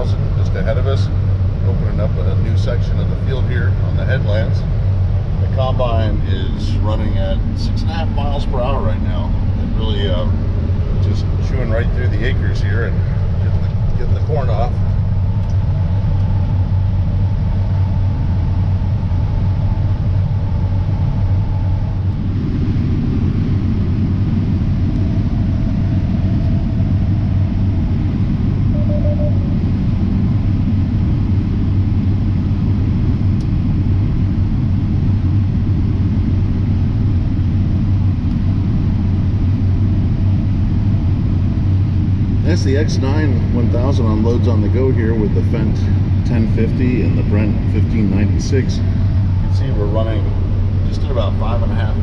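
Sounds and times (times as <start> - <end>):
combine harvester drone in cab: 0.0 - 52.0.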